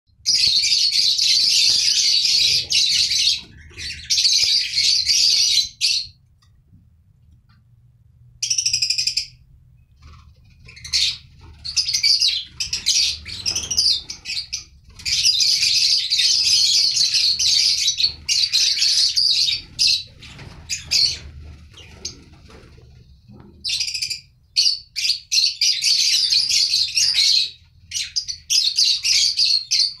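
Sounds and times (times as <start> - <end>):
lovebirds chattering shrilly: 0.3 - 6.2, 10.0 - 22.6, 23.6 - 30.0.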